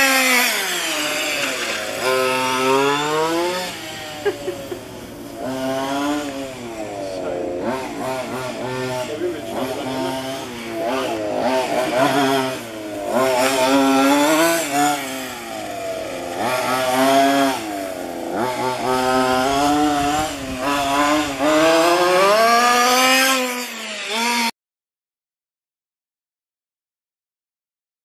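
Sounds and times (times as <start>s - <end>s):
model car engine revving: 0.0s - 24.5s.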